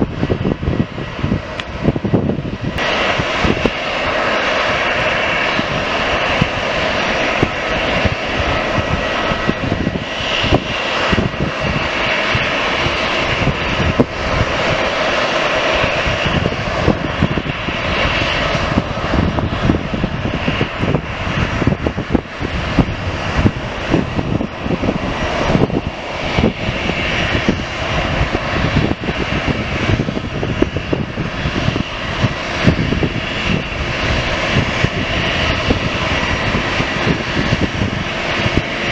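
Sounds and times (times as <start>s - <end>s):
aircraft engines running: 0.0s - 38.9s.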